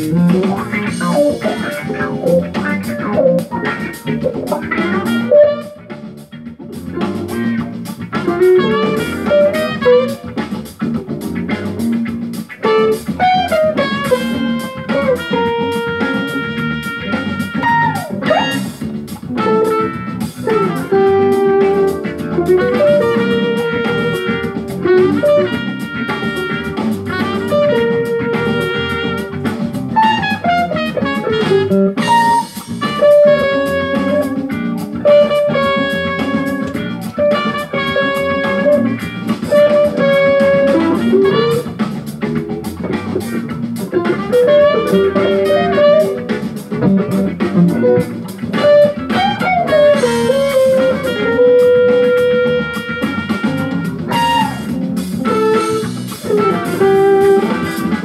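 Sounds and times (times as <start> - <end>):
backing track with drums: 0.0 - 58.0
electric guitar lead: 0.0 - 58.0.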